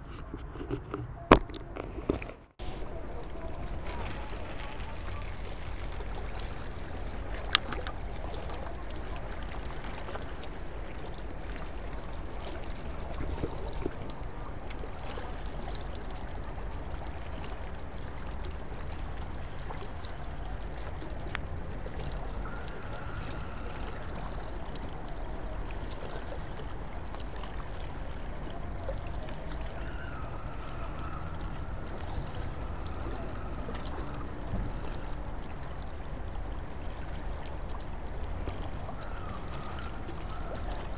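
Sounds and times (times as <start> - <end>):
low outdoor rumble: 0.0 - 40.9.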